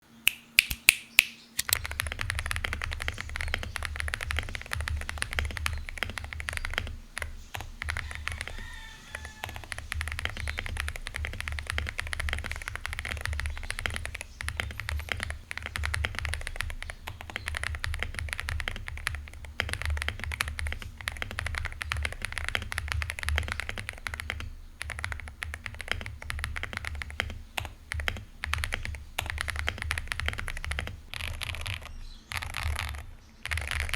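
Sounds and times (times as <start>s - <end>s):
mechanical keyboard typing: 1.6s - 33.9s.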